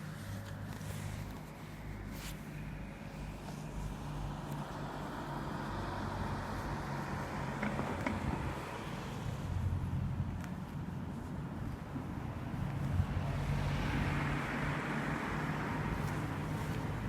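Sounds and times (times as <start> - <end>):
traffic noise: 0.0 - 17.0
vehicle engine humming: 0.0 - 17.0.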